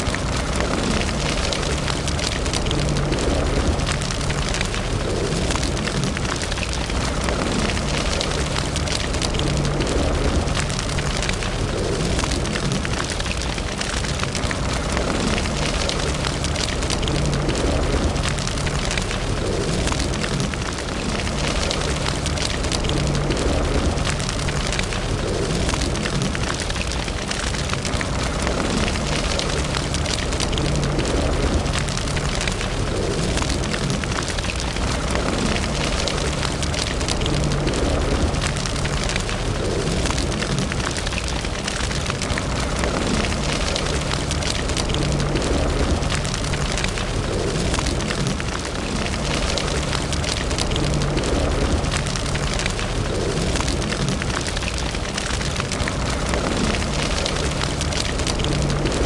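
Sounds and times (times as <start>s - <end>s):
low roar of flames: 0.0s - 59.0s
wood fire crackling and popping: 0.0s - 59.0s.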